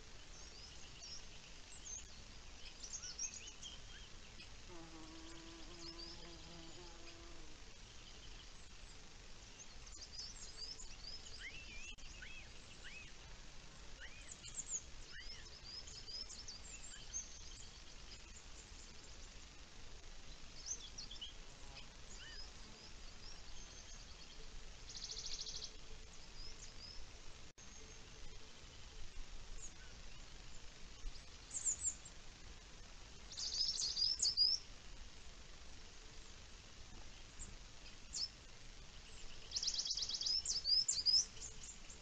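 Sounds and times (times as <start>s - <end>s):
outdoor background hiss: 0.0s - 42.0s
small birds chirping: 0.0s - 42.0s.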